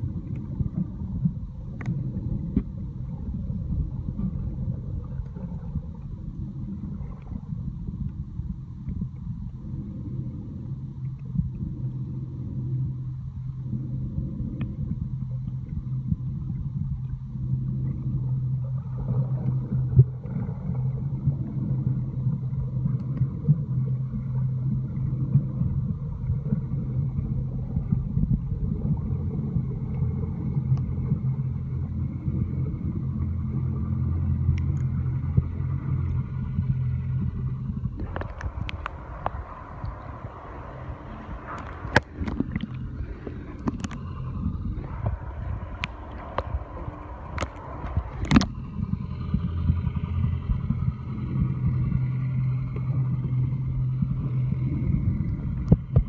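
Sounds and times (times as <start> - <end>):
deep low tone: 0.0 - 56.0
motorboat engine underwater hum: 0.0 - 56.0.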